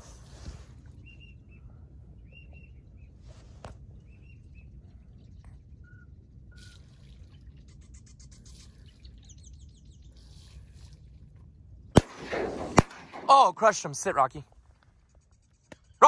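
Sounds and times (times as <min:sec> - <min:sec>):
small birds chirping: 0:00.0 - 0:11.3, 0:13.6 - 0:16.0
steady low rumble: 0:00.0 - 0:16.0.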